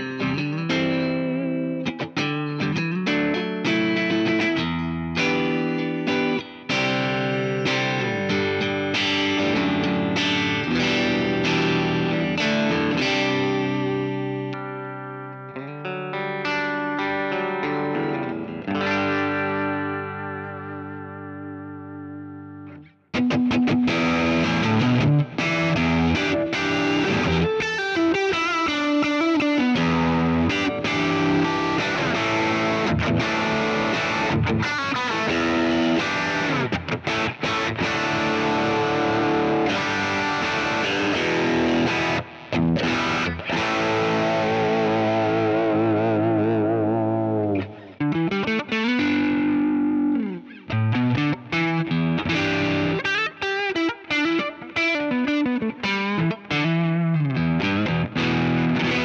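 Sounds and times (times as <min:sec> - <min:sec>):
electric guitar playing: 0:00.0 - 0:59.0.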